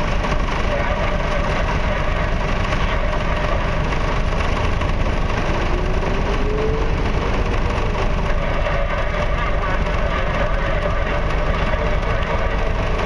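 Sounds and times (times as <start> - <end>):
diesel engine running: 0.0 - 13.0
faint rising whine: 0.0 - 13.0.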